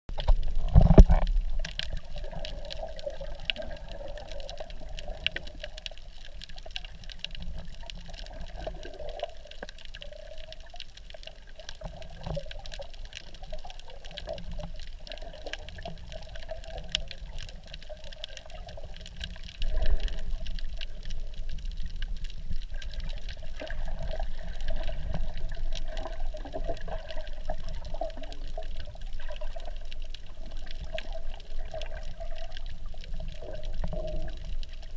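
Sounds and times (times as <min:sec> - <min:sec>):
underwater water sloshing and bubbling: 0:00.1 - 0:34.9.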